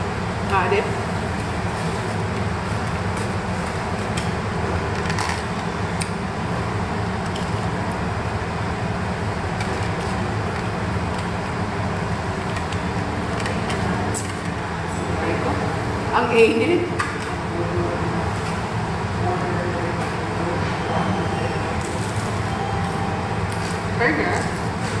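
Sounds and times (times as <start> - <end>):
machinery hum and rumble: 0.0 - 25.0.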